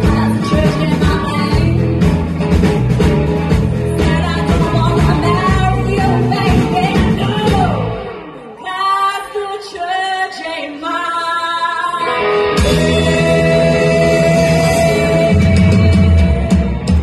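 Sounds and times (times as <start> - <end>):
woman singing: 0.0 - 2.0, 3.9 - 17.0
blues-funk band playing: 0.0 - 8.6, 12.0 - 17.0.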